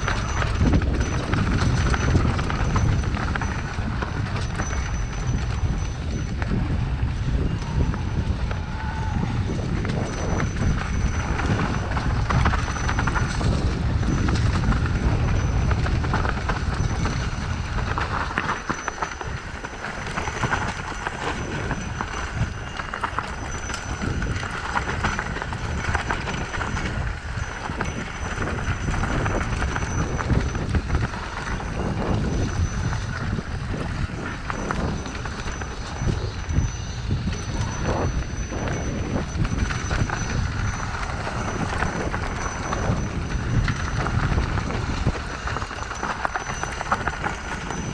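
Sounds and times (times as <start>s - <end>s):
bike rattling over dirt: 0.0s - 47.9s.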